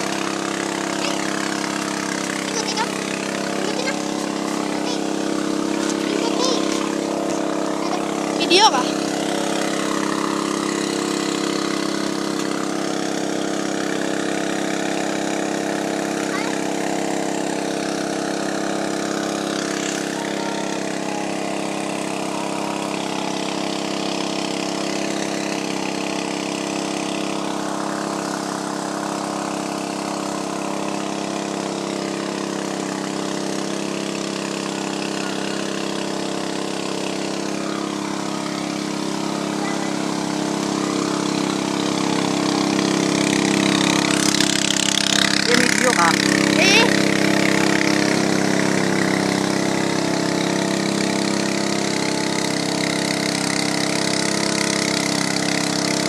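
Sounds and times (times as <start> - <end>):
pump engine running: 0.0 - 56.0.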